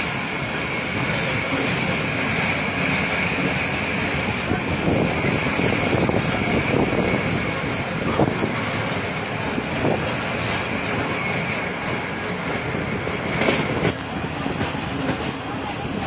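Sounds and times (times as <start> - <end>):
train wheel and rail rumble: 0.0 - 16.0.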